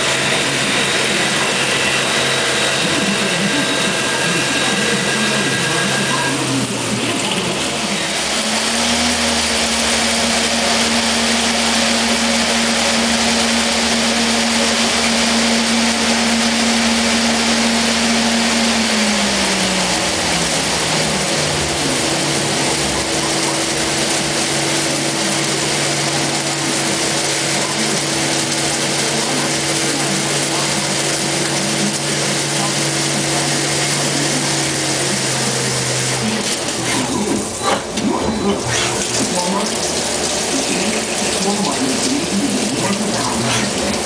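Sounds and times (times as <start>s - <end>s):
cnc machine humming: 0.0s - 44.0s.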